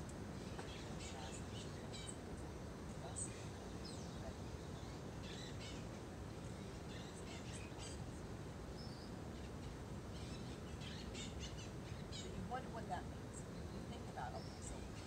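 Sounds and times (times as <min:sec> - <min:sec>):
low background rush: 0:00.0 - 0:15.0
small birds chirping: 0:00.0 - 0:15.0.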